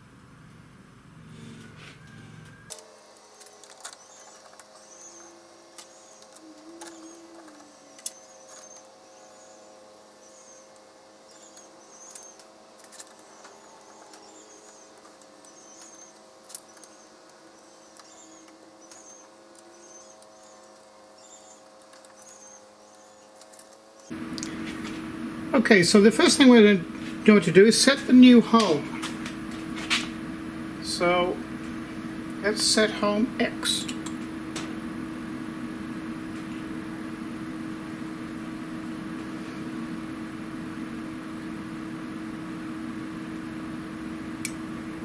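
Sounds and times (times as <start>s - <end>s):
faint electrical hum: 0.0s - 45.0s.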